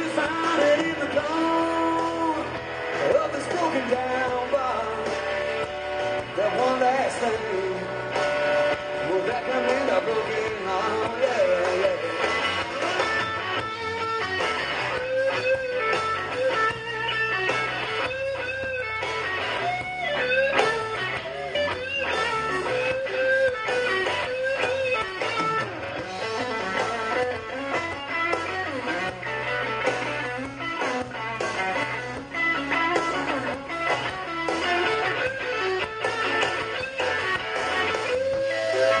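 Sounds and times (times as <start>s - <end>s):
bass guitar: 0.0s - 39.0s
drums: 0.0s - 39.0s
electric guitar lead with bends: 0.0s - 39.0s.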